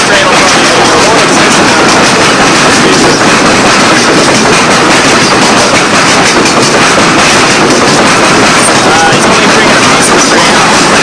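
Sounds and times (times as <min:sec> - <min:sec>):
steel wheels clattering on rails: 0:00.0 - 0:11.0
train rumbling past: 0:00.0 - 0:11.0.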